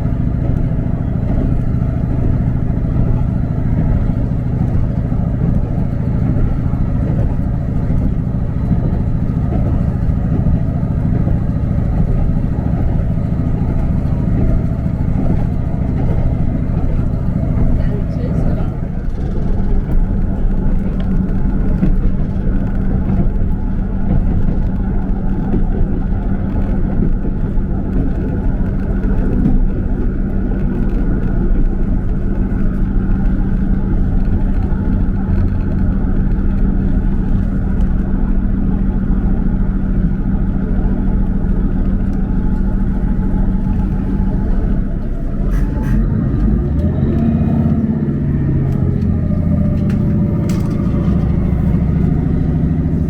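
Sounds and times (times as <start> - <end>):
vehicle engine rumble: 0.0 - 53.0.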